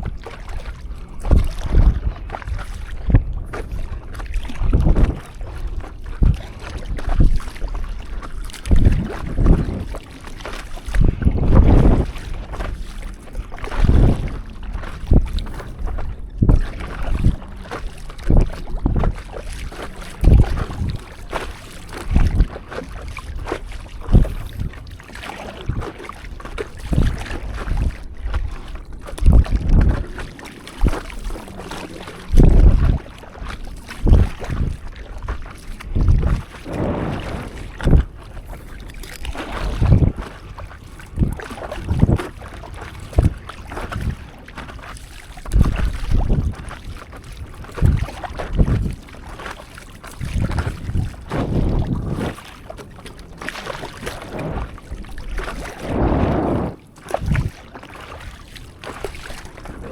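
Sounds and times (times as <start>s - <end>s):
paddle strokes splashing water: 0.0s - 59.9s
wind on microphone: 0.0s - 59.9s.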